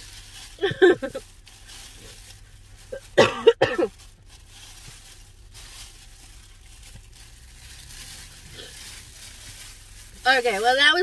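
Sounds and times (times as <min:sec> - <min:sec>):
low steady hum: 0:00.0 - 0:11.0
paper napkin crumpling: 0:00.0 - 0:11.0.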